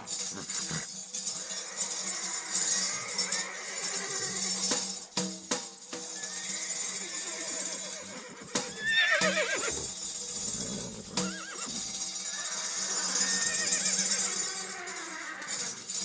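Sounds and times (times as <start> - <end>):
horse whinnying: 0.0 - 4.6, 6.2 - 15.8
tambourine strikes: 0.0 - 16.0.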